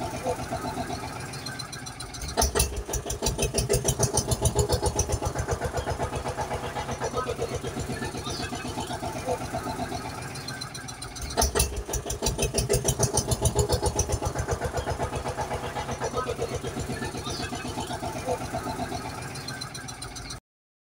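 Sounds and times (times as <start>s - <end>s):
tractor engine chugging: 0.0s - 20.4s.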